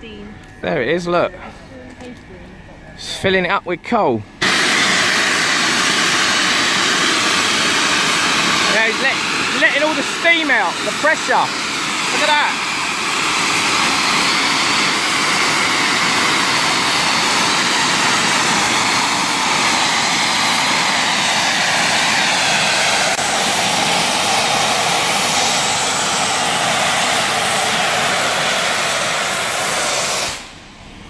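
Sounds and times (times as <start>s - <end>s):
steam locomotive hissing steam: 4.4s - 30.7s.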